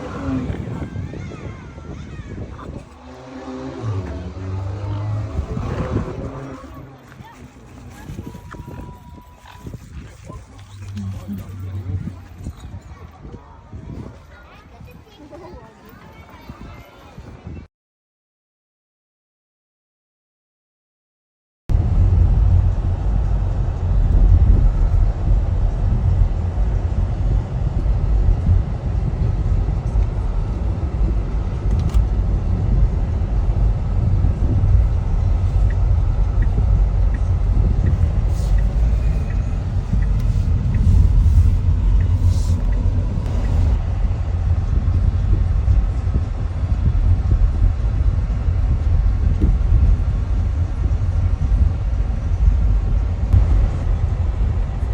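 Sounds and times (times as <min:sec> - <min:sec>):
low rumble of road train: 0:00.0 - 0:17.2, 0:21.7 - 0:54.9.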